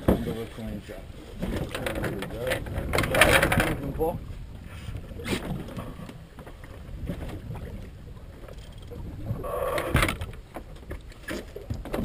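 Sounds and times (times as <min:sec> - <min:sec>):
water washing against boat hull: 0:00.0 - 0:12.0.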